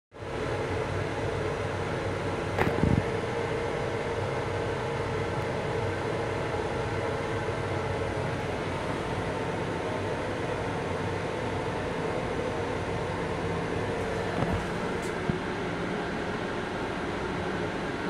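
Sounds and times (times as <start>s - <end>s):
train interior running drone: 0.2s - 18.0s.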